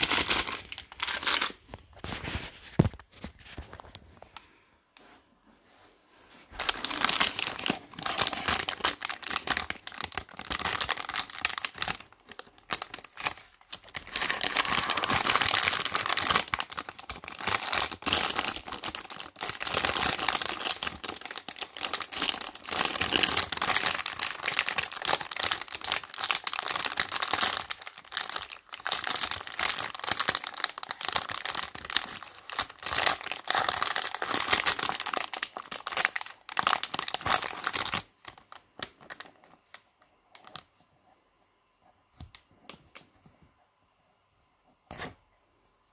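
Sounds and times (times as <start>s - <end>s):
plastic bag crinkling: 0.0s - 4.0s, 6.5s - 39.9s.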